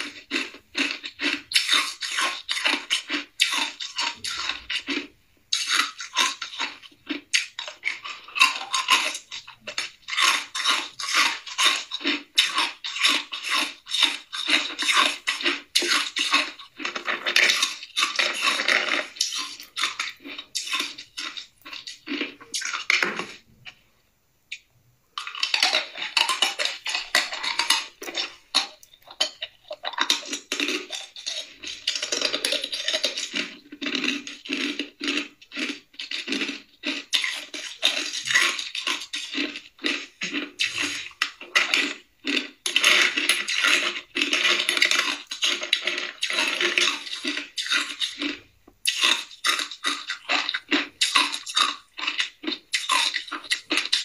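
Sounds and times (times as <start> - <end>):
ice cubes being chewed: 0.0 - 23.8, 25.2 - 54.0.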